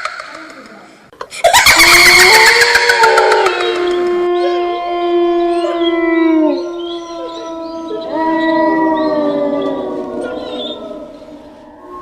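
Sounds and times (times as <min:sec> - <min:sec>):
wolves howling: 0:01.7 - 0:12.0.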